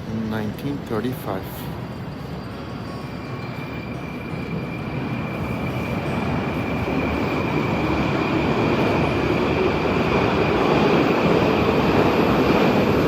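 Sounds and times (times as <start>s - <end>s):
metro train rumble: 0.0s - 13.0s
steady high whine: 0.0s - 13.0s.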